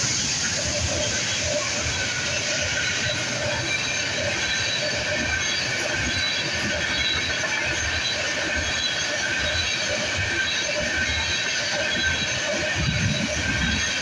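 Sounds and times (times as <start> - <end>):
steel wheels rumbling on rail: 0.0 - 14.0
wheels squealing: 0.1 - 14.0.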